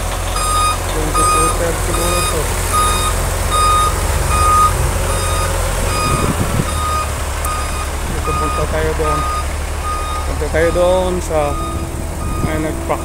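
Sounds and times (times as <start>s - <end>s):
diesel engine rumble: 0.0s - 13.0s
truck reversing alarm beeping: 0.0s - 13.0s.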